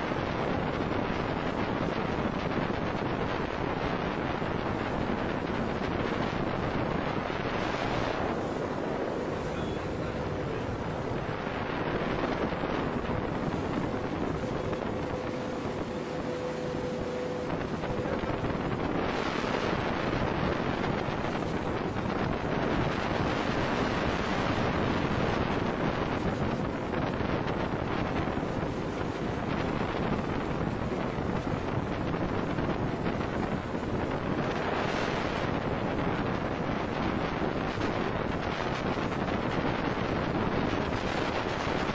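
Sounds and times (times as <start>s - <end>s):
water rushing past boat: 0.0s - 41.9s
wind buffeting microphone: 0.0s - 41.9s.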